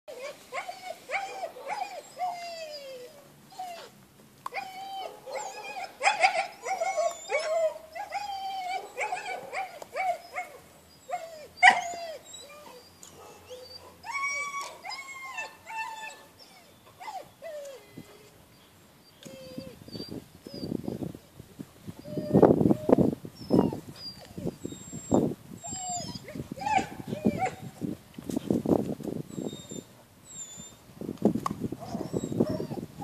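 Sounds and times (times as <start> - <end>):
puppy whining and yelping: 0.1 - 20.9, 22.0 - 27.8, 29.3 - 30.8, 31.8 - 33.0.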